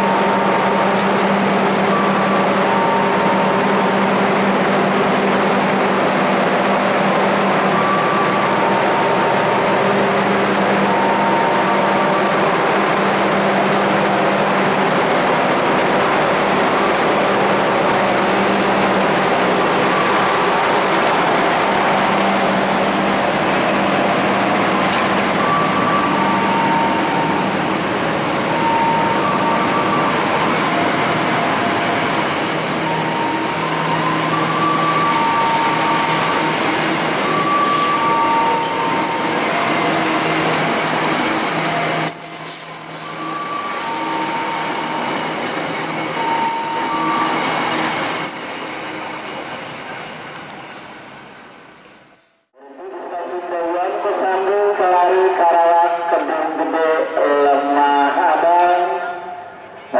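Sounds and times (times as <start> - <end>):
train wheels rumbling on rails: 0.0 - 52.3.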